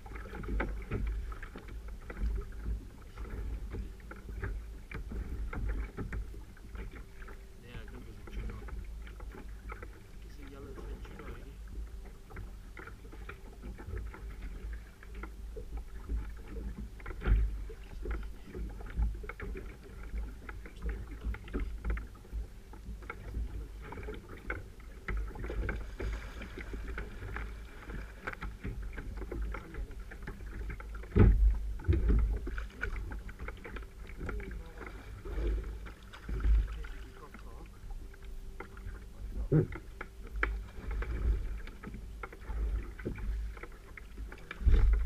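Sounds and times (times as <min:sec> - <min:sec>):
thumps on hull: 0:00.0 - 0:10.0, 0:10.7 - 0:37.6, 0:38.6 - 0:45.0
water slapping against hull: 0:00.0 - 0:45.0.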